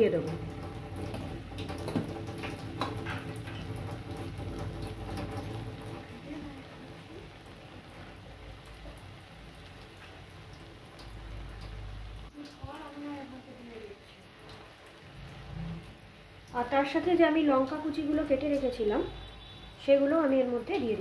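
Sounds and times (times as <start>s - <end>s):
food sizzling in a frying pan: 1.3s - 4.4s, 5.0s - 21.0s.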